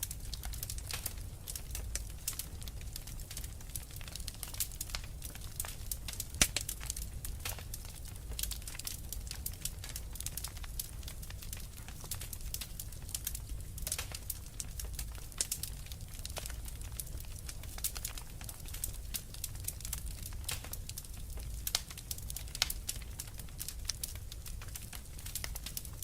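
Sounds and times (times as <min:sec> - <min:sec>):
wood fire pops and snaps: 0:00.0 - 0:26.0.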